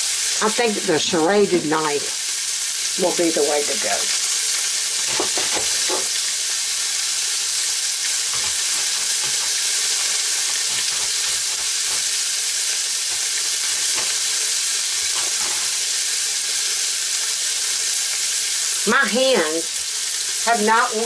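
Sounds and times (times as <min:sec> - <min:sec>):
food sizzling in a skillet: 0:00.0 - 0:21.0.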